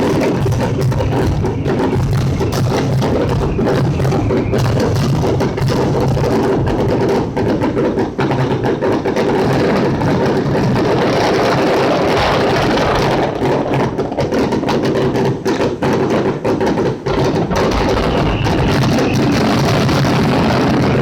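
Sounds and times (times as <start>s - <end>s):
fireworks booms and crackles: 0.0s - 21.0s.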